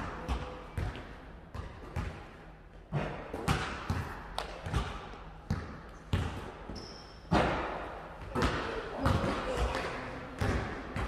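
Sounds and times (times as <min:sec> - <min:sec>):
basketball bouncing on gym floor: 0:00.0 - 0:11.0.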